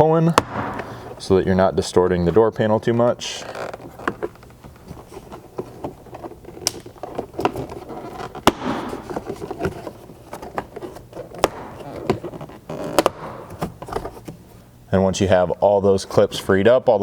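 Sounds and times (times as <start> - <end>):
panel rustling and creaking: 0.7 - 14.6.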